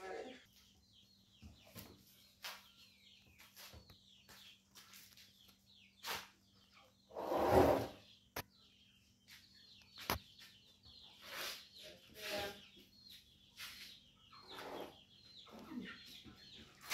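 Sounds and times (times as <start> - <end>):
high chick peeps: 1.6 - 7.1, 7.9 - 16.9.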